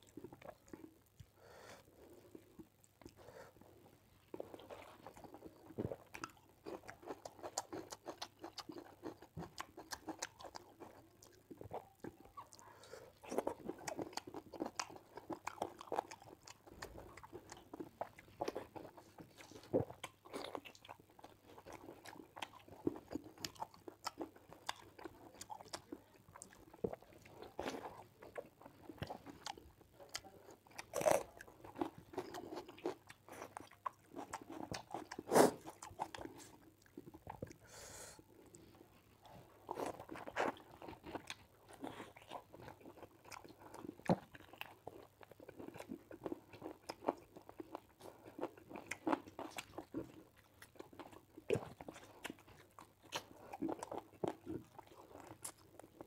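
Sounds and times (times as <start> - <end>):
chewing and mouth sounds: 0.0 - 56.0.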